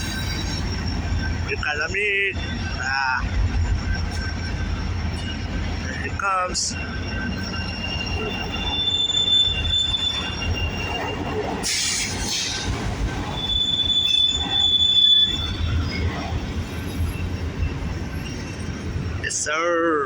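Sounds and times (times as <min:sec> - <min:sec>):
freight train rumbling by: 0:00.0 - 0:20.0
train wheels squealing: 0:00.0 - 0:20.0.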